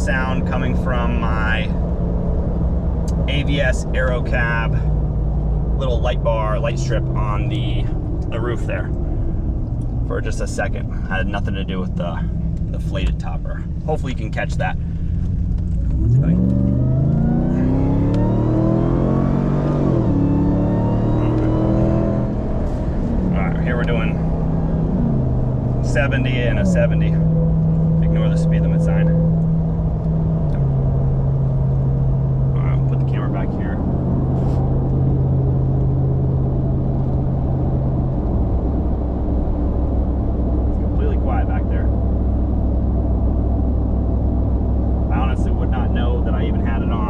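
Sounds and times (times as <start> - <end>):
road and tyre rumble: 0.0 - 47.0
engine accelerating hard: 2.8 - 47.0.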